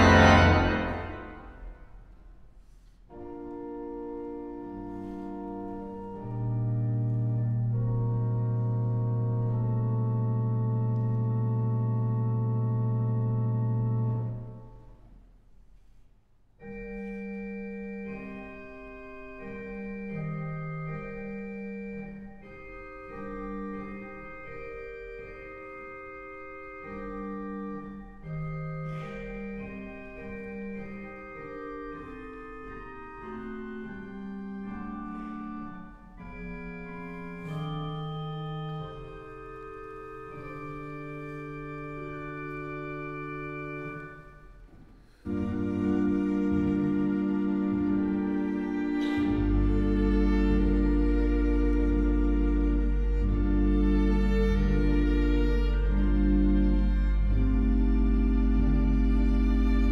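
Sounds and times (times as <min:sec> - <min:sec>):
pipe organ chords: 0:00.0 - 0:02.2, 0:03.1 - 0:15.2, 0:16.6 - 0:59.9.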